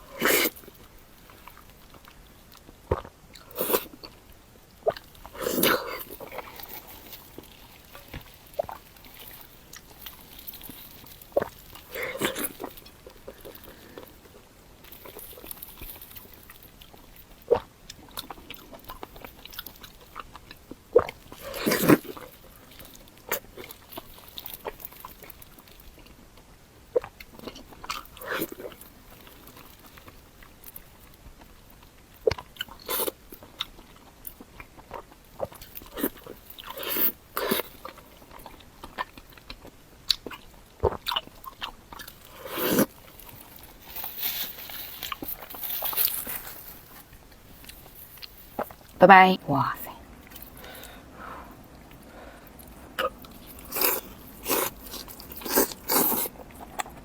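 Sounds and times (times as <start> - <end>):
crunchy chewing: 0.0 - 49.0, 49.8 - 57.0.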